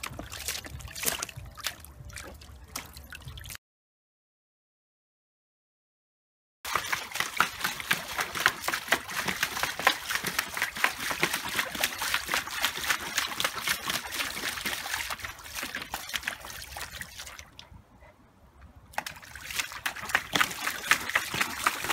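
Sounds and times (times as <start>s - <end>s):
puppy splashing in water: 0.0s - 3.6s, 6.7s - 17.7s, 18.9s - 21.9s.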